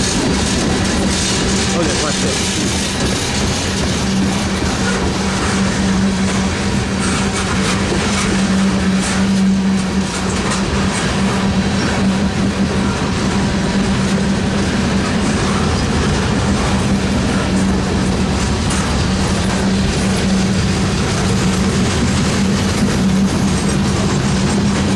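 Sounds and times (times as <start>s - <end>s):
train rumbling along track: 0.0s - 24.9s.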